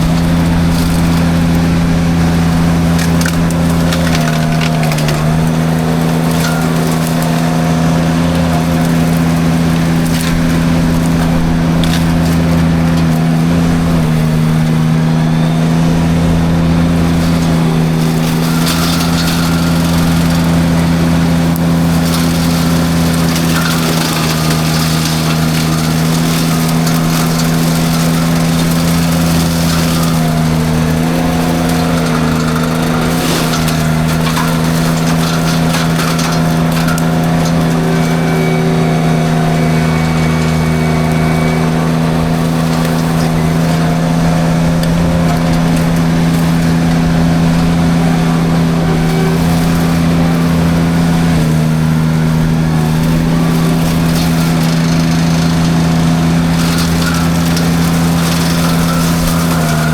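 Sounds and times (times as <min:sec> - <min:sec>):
mulcher clearing brush: 0:00.0 - 0:59.9
skid steer engine droning: 0:00.0 - 0:59.9.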